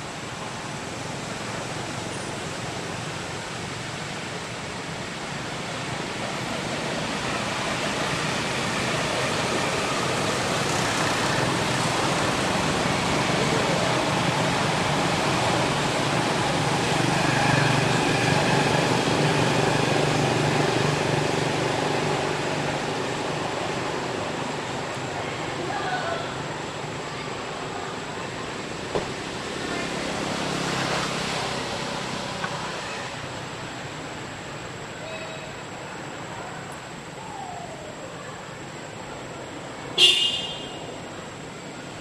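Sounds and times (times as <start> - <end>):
outdoor background noise: 0.0 - 42.0
vehicle engine hum: 0.0 - 42.0.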